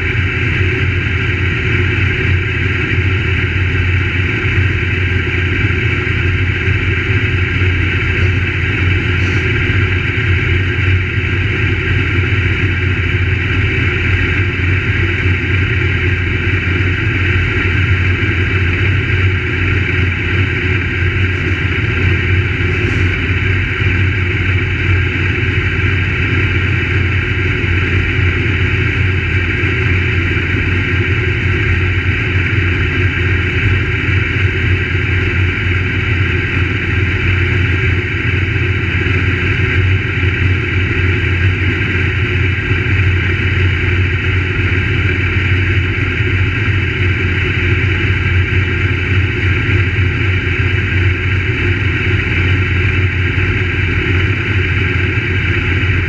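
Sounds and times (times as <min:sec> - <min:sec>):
race car engines running: 0:00.0 - 0:56.0.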